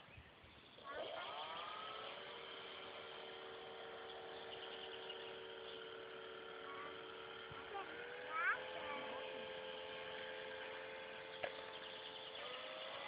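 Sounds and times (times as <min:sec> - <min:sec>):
model plane motor whining: 0:00.5 - 0:13.0.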